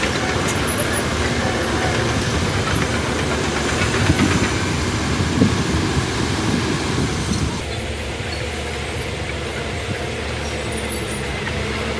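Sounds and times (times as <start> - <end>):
diesel engine rumble: 0.0 - 11.9
machinery clanking: 0.0 - 11.9.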